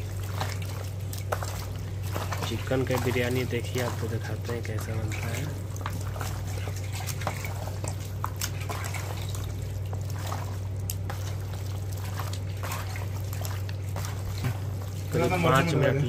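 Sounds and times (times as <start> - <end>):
hand squelching raw meat: 0.0 - 16.0
steady low hum: 0.0 - 16.0.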